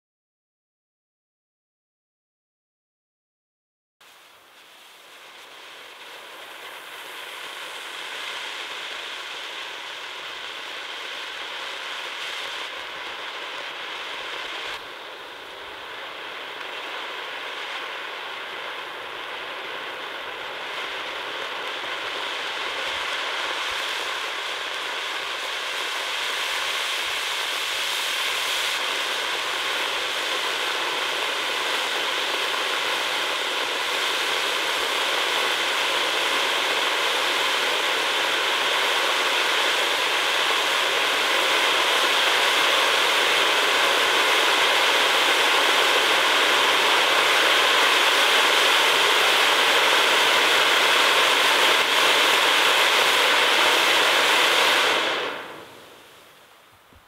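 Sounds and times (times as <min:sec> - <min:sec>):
firework fountain hissing: 0:04.0 - 0:57.0.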